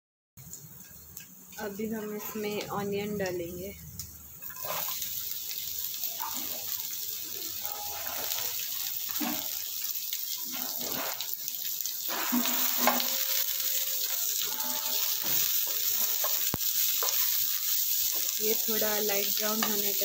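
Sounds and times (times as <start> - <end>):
onions sizzling in hot fat: 0.4 - 20.0.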